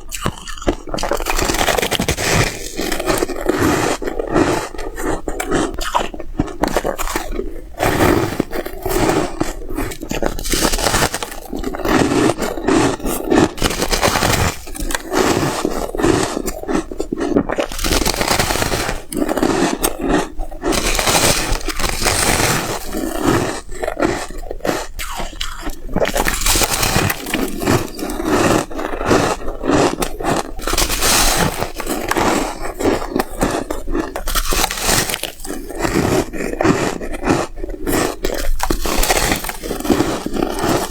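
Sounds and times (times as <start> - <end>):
crunching ice: 0.0 - 40.9.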